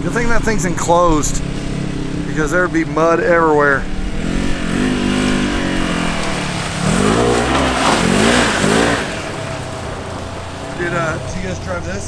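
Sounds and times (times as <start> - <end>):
off-road vehicle engine revving: 0.0 - 12.0
steady low rumble: 0.0 - 12.0.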